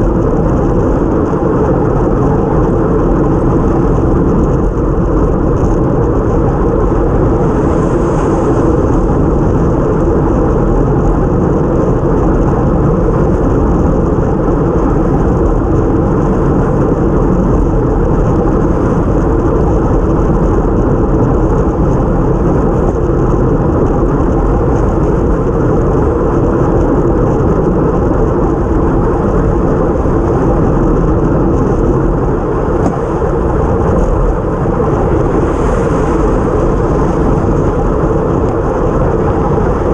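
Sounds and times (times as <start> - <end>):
tyre noise on wet road: 0.0 - 39.9
wind rushing over camera: 0.0 - 39.9.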